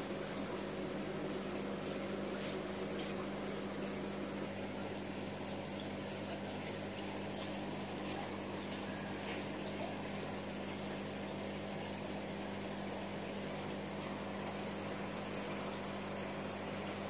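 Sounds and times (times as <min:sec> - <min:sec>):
aquarium bubbling: 0:00.0 - 0:17.0
low pump hum: 0:00.0 - 0:17.0.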